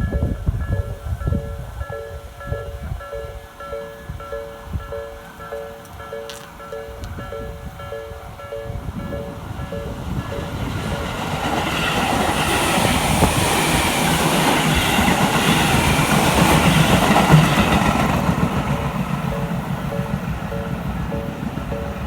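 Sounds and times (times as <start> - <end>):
crossing warning bell dinging: 0.0 - 22.0
train passing: 0.0 - 22.0.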